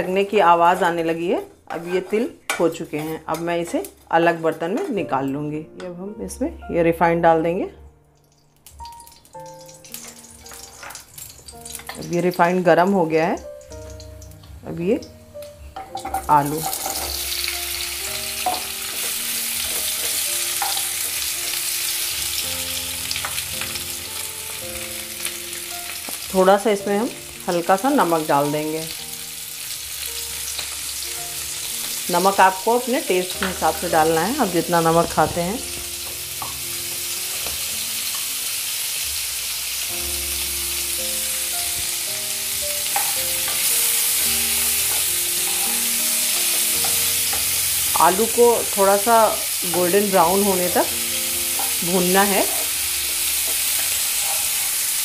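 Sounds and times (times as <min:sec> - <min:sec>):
faint background music: 0:00.0 - 0:55.0
potatoes sizzling in hot oil: 0:08.3 - 0:55.0.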